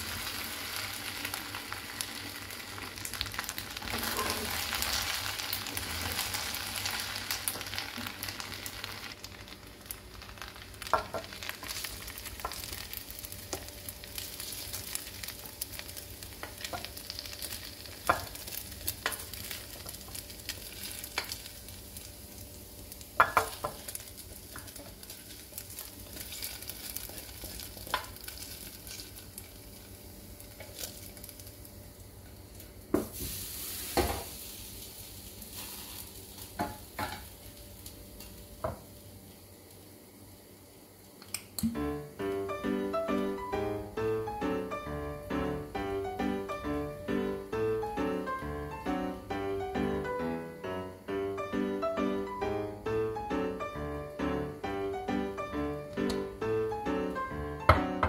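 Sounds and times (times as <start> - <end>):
pot sizzling hiss: 0.0 - 49.0.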